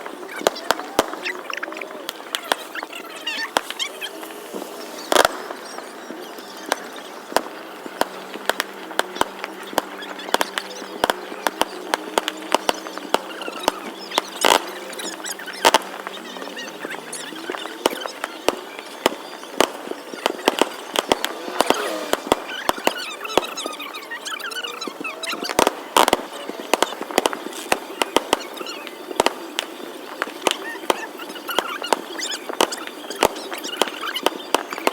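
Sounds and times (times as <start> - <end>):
fireworks bangs and cracks: 0.0 - 34.9.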